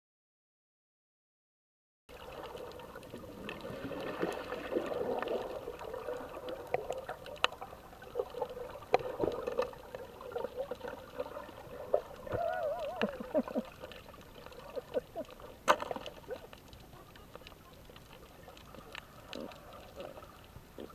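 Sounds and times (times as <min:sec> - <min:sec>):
water gurgling underwater: 0:02.1 - 0:20.9.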